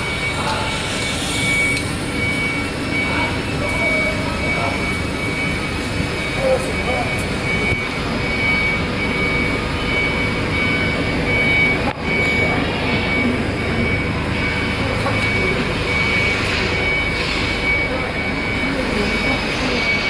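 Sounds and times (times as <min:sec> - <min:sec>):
cable making machinery running: 0:00.0 - 0:20.0
pulsing high-pitched tone: 0:00.0 - 0:20.0.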